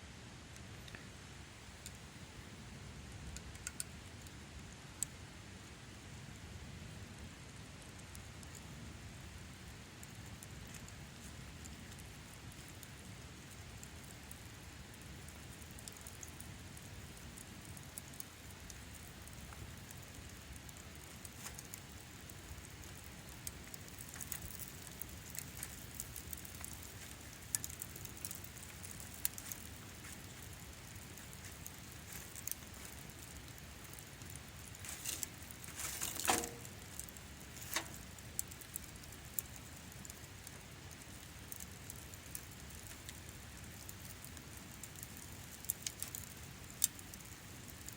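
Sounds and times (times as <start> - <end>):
steady low background noise: 0.0 - 47.9
campfire crackling and popping: 0.4 - 47.9.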